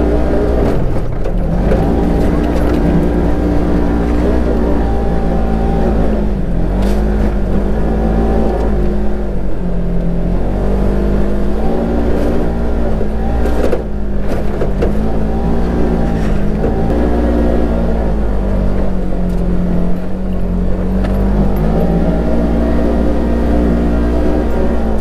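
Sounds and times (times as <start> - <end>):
engine running under throttle: 0.0 - 25.0.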